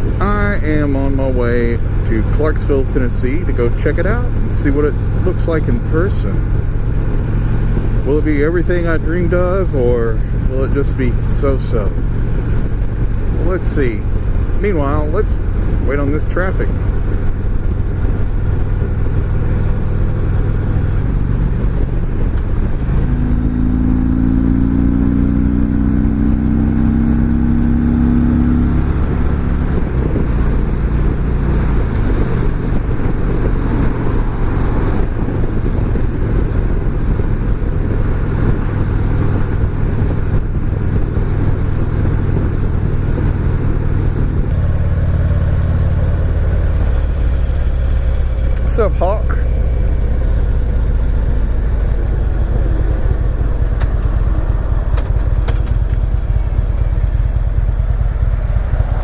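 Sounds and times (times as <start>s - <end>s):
motorcycle engine running: 0.0s - 59.0s
road noise: 0.0s - 59.0s
rising whine: 3.0s - 59.0s.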